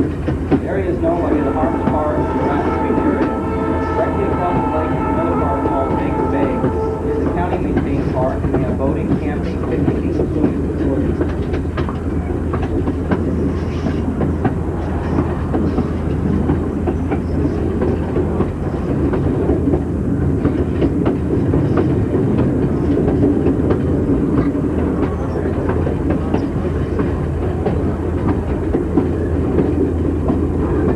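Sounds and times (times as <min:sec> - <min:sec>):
railcar rumbling along track: 0:00.0 - 0:30.9.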